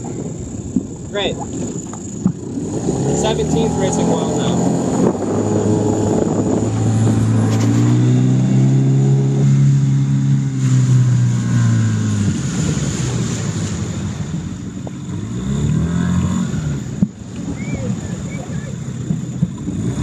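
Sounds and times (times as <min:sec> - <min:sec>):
outboard motor humming: 0:00.0 - 0:20.0
water wash: 0:00.0 - 0:20.0
wind noise: 0:00.0 - 0:20.0.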